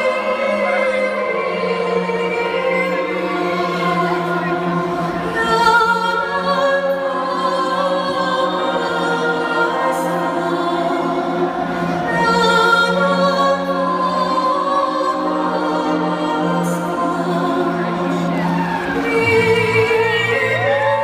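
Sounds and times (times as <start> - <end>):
choir-like music: 0.0 - 21.0.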